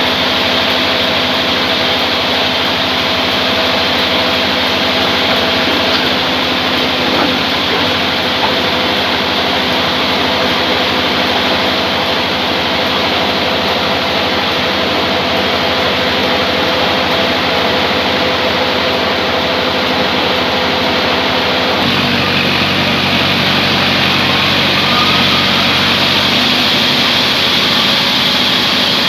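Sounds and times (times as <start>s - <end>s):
sawmill saw drone: 0.0s - 29.0s.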